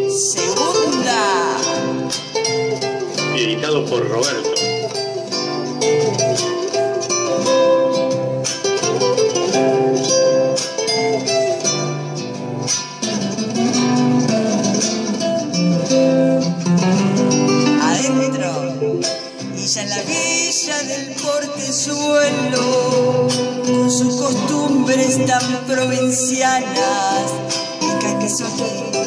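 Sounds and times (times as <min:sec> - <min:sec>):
folk song backing track: 0:00.0 - 0:29.0
plucked guitar: 0:00.0 - 0:29.0.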